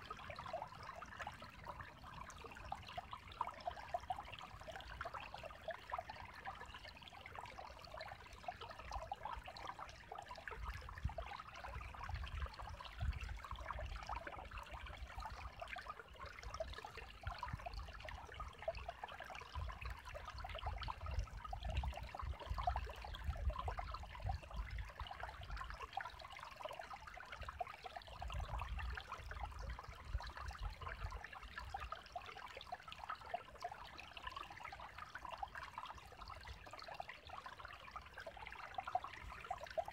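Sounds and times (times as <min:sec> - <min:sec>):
creek trickling and splashing: 0:00.0 - 0:39.9.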